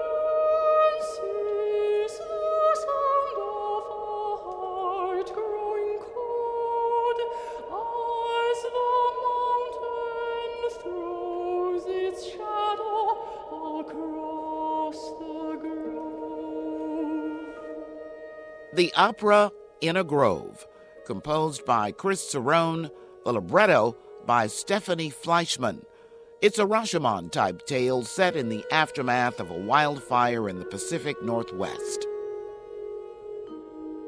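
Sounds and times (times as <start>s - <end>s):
operatic singing: 0.0s - 33.0s.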